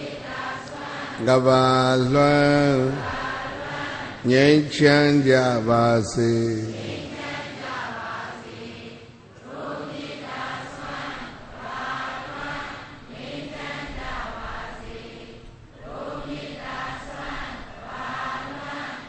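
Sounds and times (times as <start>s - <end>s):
congregation chanting in unison: 0.0s - 19.0s.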